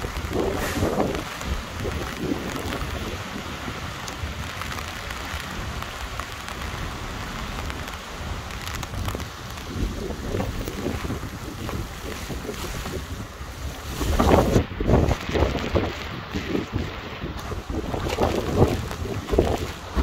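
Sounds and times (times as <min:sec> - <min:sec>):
heavy rain hissing: 0:00.0 - 0:20.0
raindrops ticking on surfaces: 0:00.0 - 0:20.0.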